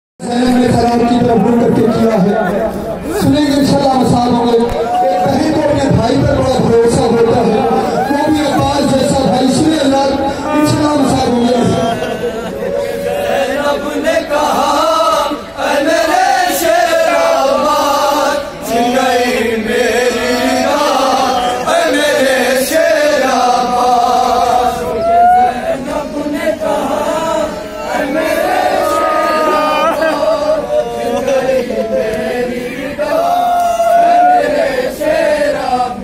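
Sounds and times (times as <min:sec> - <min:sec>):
men chanting a lament: 0:00.2 - 0:36.0.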